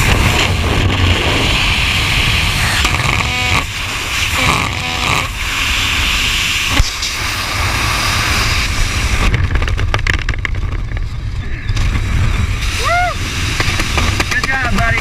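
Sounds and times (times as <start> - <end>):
steady wind hiss: 0.0 - 15.0
wind buffeting microphone: 0.0 - 15.0
quick sharp crackles and flutters: 2.2 - 15.0.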